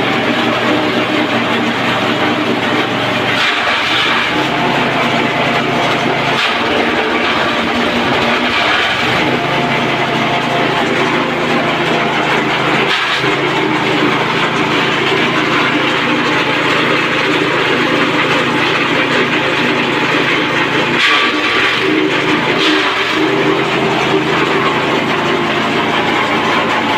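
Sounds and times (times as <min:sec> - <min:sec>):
grass chopper engine running: 0:00.0 - 0:26.9.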